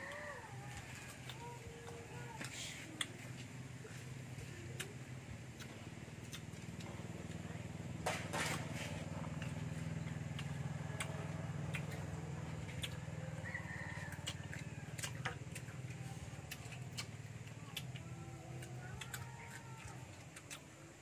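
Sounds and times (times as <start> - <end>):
mango being bitten and chewed: 0.0 - 21.0
steady low hum: 0.0 - 21.0.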